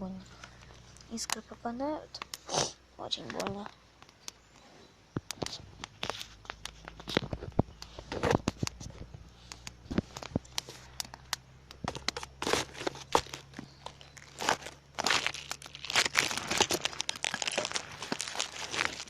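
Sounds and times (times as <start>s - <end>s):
fire crackling and popping: 0.5s - 19.0s.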